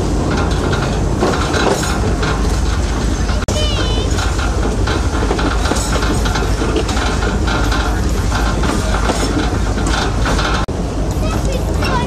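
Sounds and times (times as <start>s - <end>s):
rail joint clicks and knocks: 0.0s - 12.0s
train wheels rumbling on rail: 0.0s - 12.0s.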